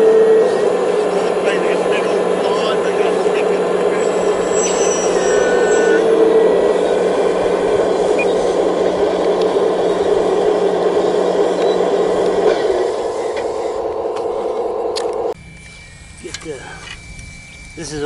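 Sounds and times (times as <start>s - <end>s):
diesel excavator engine drone: 0.0s - 18.0s.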